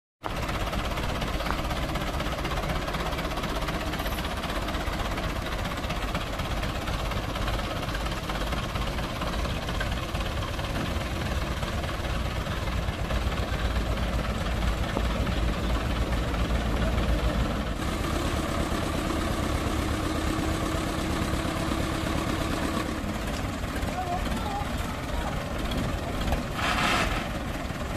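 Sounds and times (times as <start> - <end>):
tractor diesel engine running: 0.2 - 27.9.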